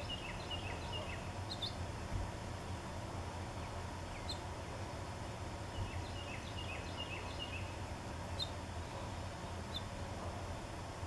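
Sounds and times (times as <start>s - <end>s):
low background rumble: 0.0s - 11.0s
songbirds chirping: 0.0s - 11.0s.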